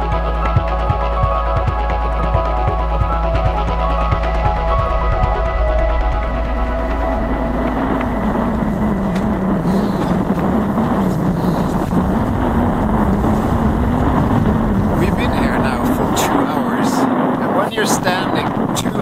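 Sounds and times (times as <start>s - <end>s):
strong wind against microphone: 0.0s - 19.0s.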